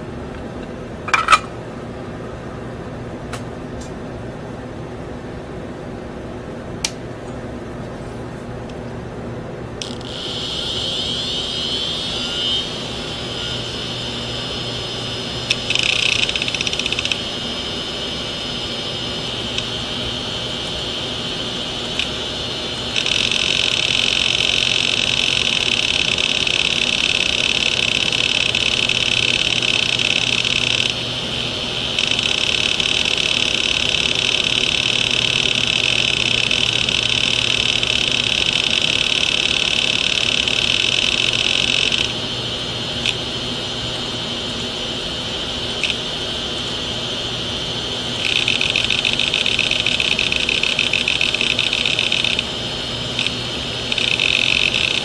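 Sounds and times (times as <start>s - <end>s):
hard disk spindle whine: 0.0s - 55.0s.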